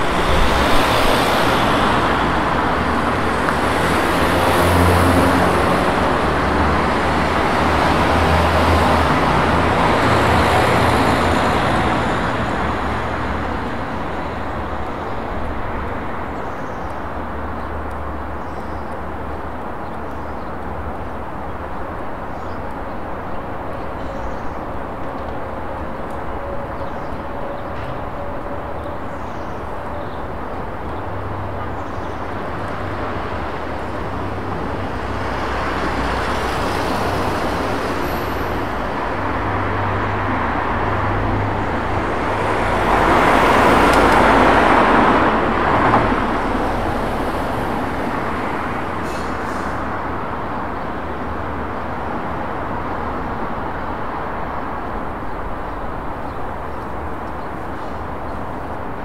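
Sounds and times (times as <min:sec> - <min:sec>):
city road traffic: 0:00.0 - 0:59.0.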